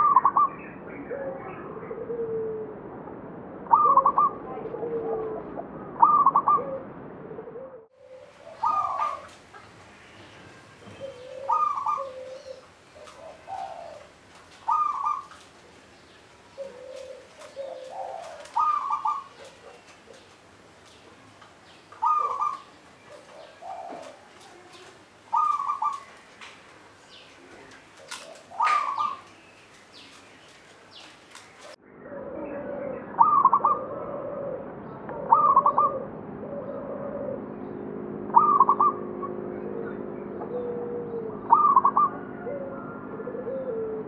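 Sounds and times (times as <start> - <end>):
dove cooing: 3.7 - 37.6, 38.3 - 44.0.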